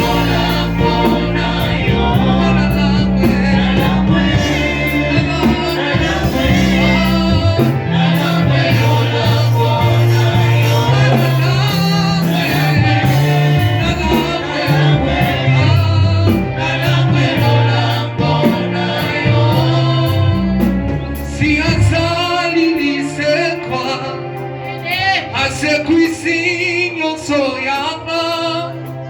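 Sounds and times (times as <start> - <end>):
prominent bass line: 0.0 - 27.4
voices singing gospel music: 0.0 - 29.0.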